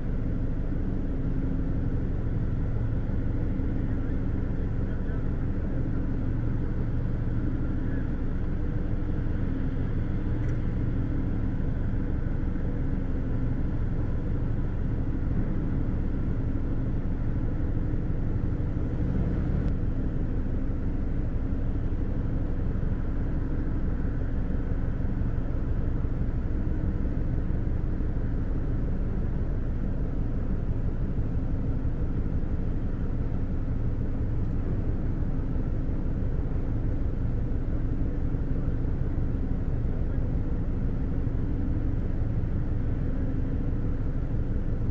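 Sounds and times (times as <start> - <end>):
ship diesel machinery rumbling: 0.3 - 44.9.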